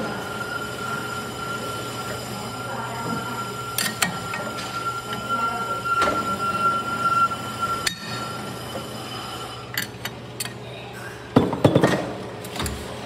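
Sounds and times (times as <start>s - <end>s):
brake lathe humming: 0.0s - 10.6s.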